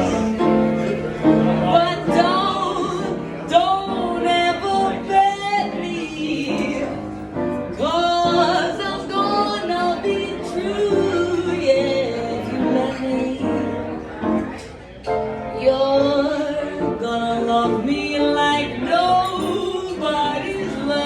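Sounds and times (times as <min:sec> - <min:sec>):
person singing with instruments: 0:00.0 - 0:14.1, 0:15.6 - 0:21.0.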